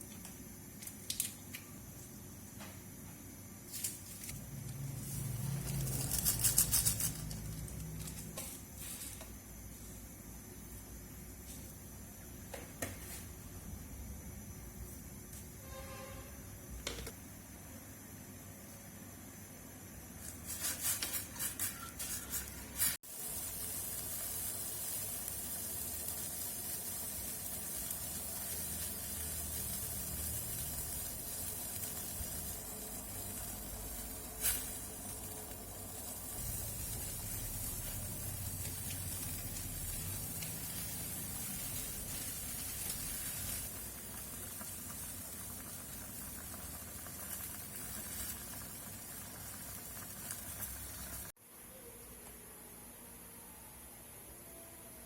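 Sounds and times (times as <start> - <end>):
food hissing on the stove: 3.6 - 17.1, 18.7 - 51.4.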